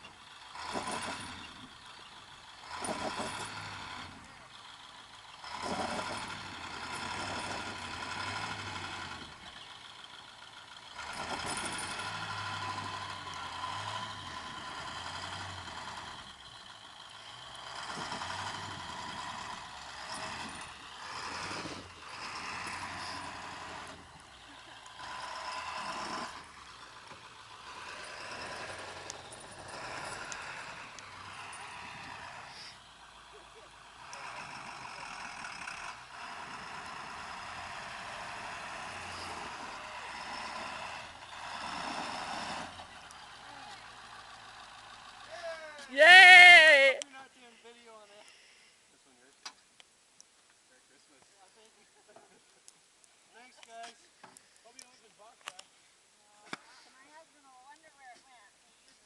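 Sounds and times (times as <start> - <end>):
truck engine straining in snow: 0.0 - 49.6.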